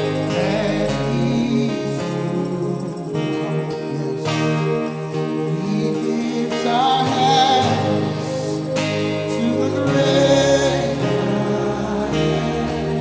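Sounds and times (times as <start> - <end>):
sustained gospel chords: 0.0 - 13.0
voice singing long wavering notes: 0.0 - 13.0.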